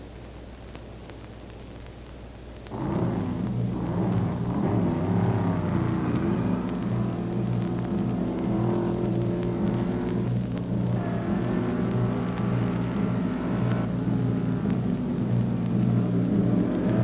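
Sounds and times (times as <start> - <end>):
race car engine running: 2.7 - 17.0.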